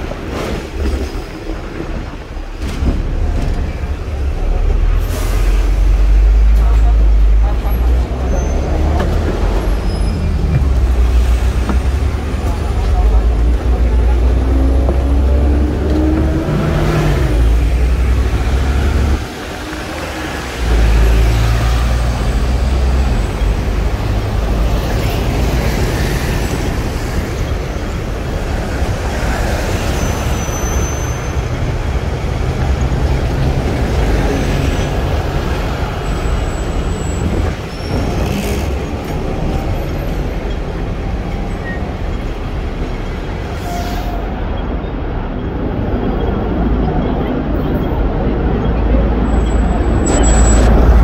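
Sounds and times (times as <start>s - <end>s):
city traffic: 0.0s - 51.0s
electric tram rumbling on rails: 0.0s - 51.0s.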